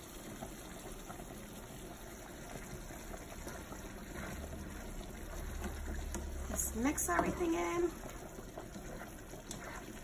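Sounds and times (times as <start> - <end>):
food sizzling and bubbling in pan: 0.0 - 10.0
spatula stirring sauce: 0.0 - 10.0.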